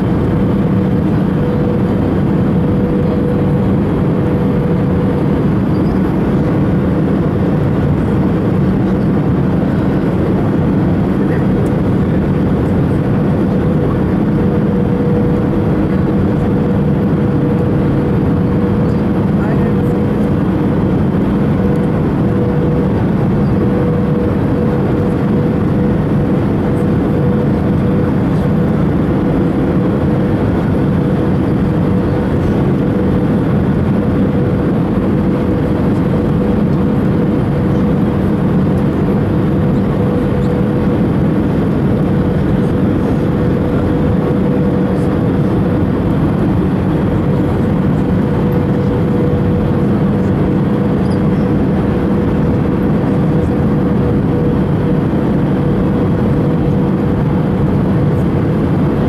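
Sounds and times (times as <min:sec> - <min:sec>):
jet engines roaring: 0:00.0 - 0:59.0
mid-pitched cabin hum: 0:00.0 - 0:59.0.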